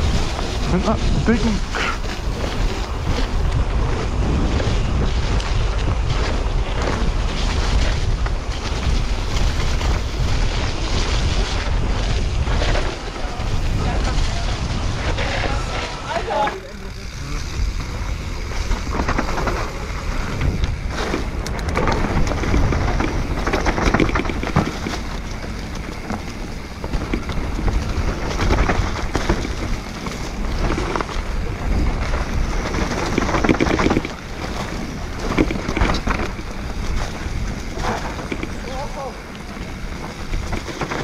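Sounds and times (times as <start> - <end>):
bike clattering: 0.0 - 41.0
tyres rumbling on rough ground: 0.0 - 41.0
wind buffeting microphone: 0.0 - 41.0.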